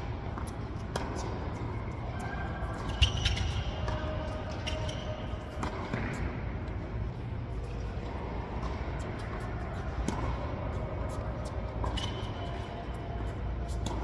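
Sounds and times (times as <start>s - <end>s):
low hum in hall: 0.0s - 14.0s
balls bouncing on hard court: 0.1s - 14.0s
tennis balls struck by rackets: 0.2s - 6.6s, 8.1s - 13.0s.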